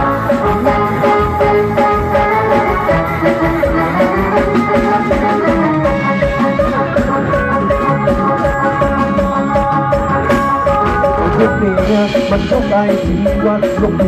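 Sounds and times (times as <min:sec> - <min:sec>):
drum-kit beat: 0:00.0 - 0:14.0
live band music: 0:00.0 - 0:14.0.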